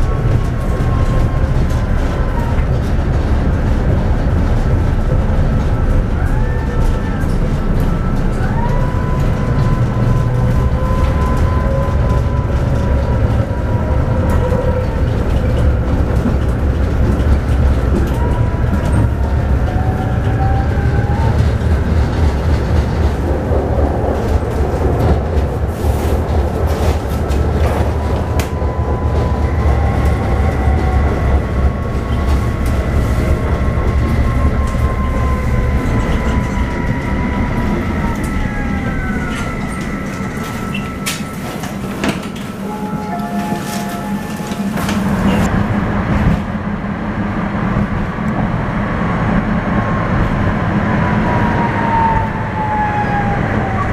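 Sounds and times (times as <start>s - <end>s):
rail clicks: 0.0s - 46.7s
tram wheels rumbling on rail: 0.0s - 53.9s.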